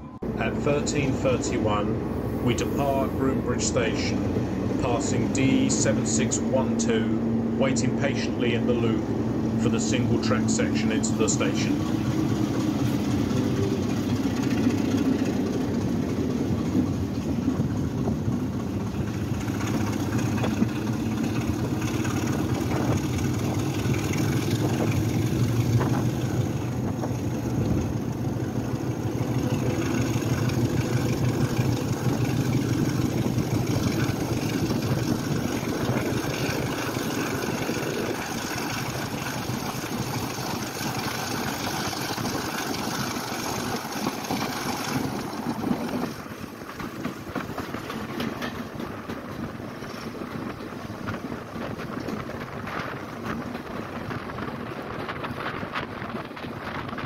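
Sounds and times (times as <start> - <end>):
diesel locomotive engine running: 0.0 - 57.0
rail clicks: 0.0 - 57.0
train wheels rumbling on track: 0.0 - 57.0.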